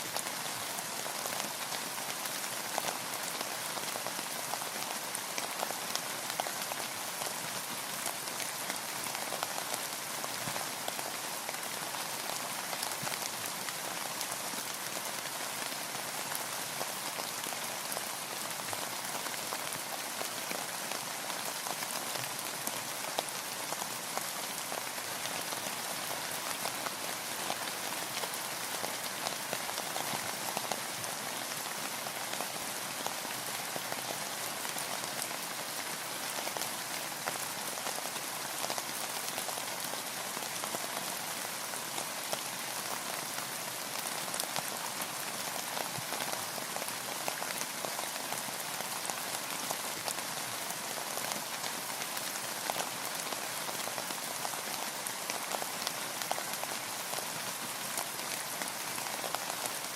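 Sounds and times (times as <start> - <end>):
rain falling on a boat: 0.0 - 59.9.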